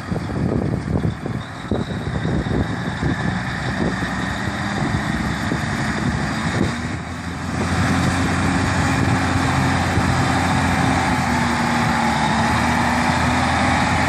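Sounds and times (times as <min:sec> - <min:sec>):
heavy machine diesel engine: 0:00.0 - 0:14.0.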